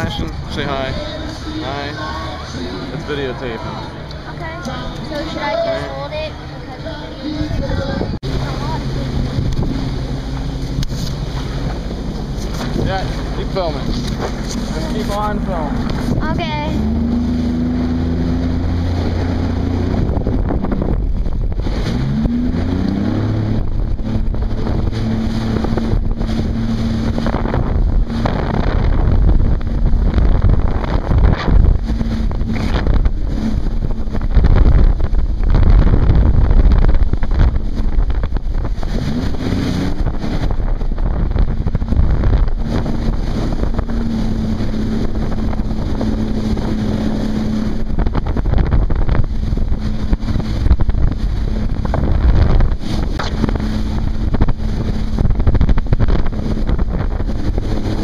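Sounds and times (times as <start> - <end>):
jet ski engine running: 0.0 - 58.0
wind buffeting microphone: 0.0 - 58.0.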